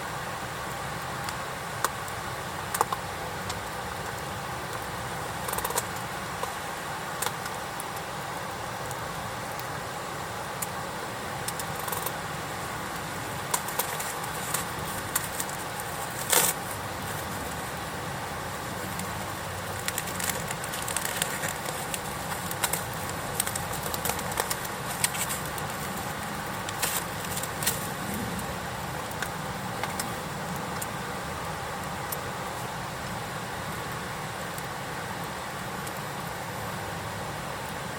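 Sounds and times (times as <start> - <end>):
steady background hiss: 0.0 - 37.9
campfire crackling and popping: 0.4 - 36.6.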